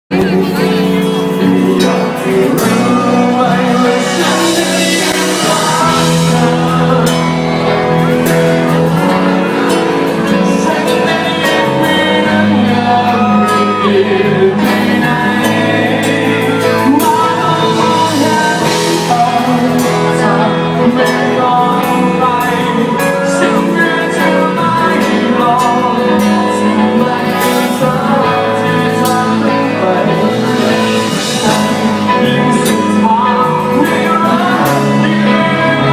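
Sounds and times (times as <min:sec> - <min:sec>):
band playing: 0:00.1 - 0:35.9
person singing live: 0:00.1 - 0:35.9.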